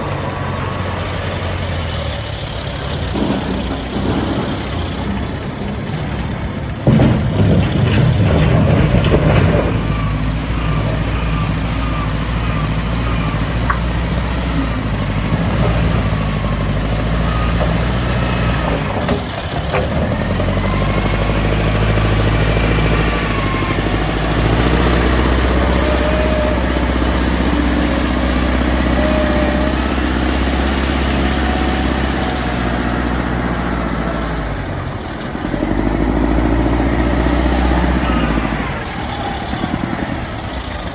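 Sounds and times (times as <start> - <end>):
diesel machinery running: 0.0 - 40.9.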